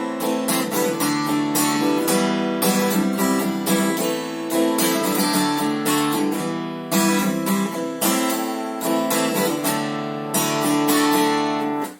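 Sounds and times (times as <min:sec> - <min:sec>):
acoustic guitar strumming: 0:00.0 - 0:11.9.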